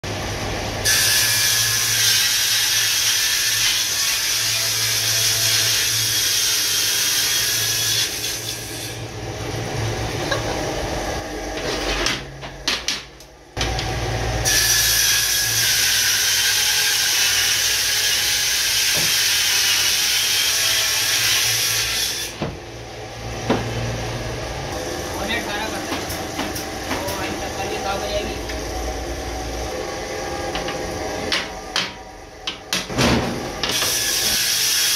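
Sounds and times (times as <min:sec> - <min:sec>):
table saw cutting wood: 0:00.1 - 0:12.3, 0:13.6 - 0:32.6, 0:33.2 - 0:34.9.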